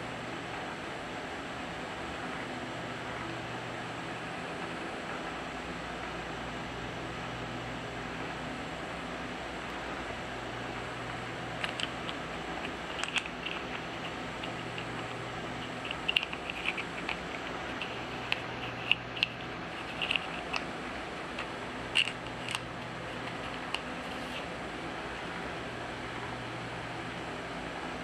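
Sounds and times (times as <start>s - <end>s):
room hum: 0.0s - 28.0s.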